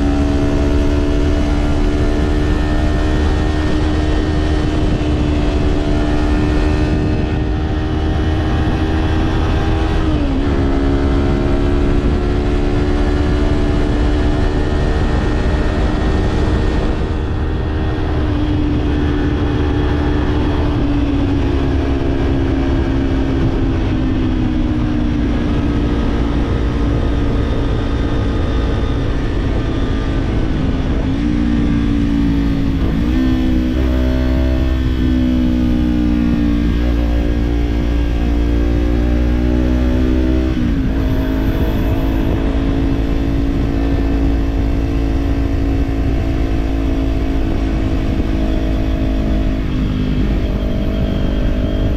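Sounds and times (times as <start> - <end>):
motorcycle engine: 0.0 - 51.9
wind rumble on microphone: 0.0 - 51.9.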